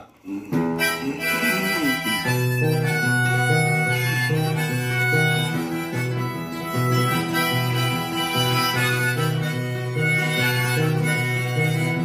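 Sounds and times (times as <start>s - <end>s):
harmonica melody: 0.3s - 12.0s
strummed guitar chords: 0.3s - 12.0s.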